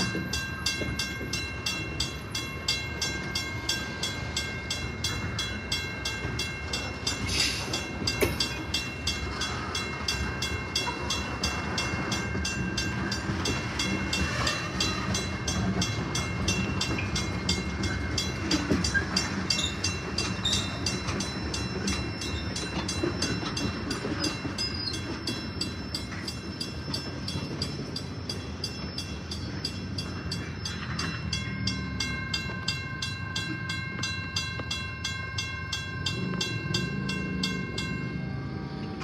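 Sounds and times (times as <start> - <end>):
crossing bell ringing: 0.0 - 39.0
freight train rumbling past: 0.0 - 39.0.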